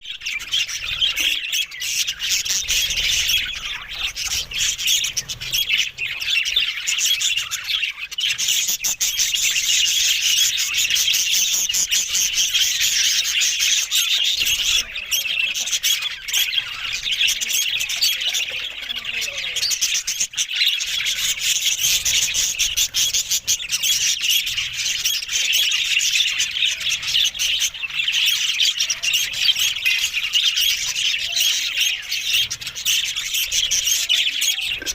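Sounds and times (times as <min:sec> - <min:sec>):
budgerigars chattering: 0:00.0 - 0:34.9.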